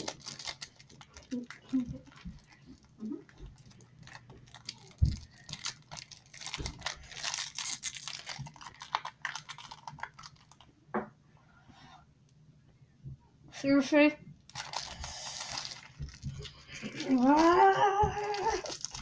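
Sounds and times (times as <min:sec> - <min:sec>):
plastic packet crinkling and tearing: 0:00.0 - 0:10.7, 0:14.4 - 0:19.0.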